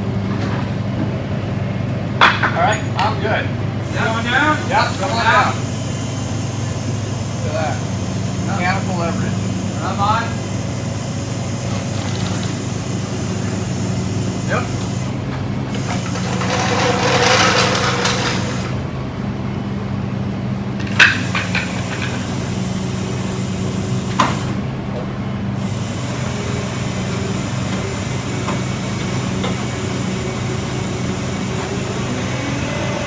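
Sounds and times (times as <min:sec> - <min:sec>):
tow truck engine running: 0:00.0 - 0:33.0.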